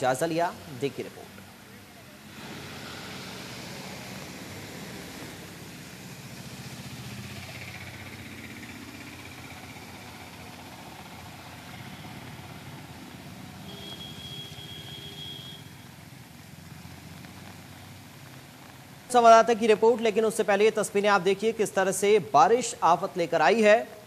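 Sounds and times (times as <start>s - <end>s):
vehicles driving through water: 0.0s - 22.0s.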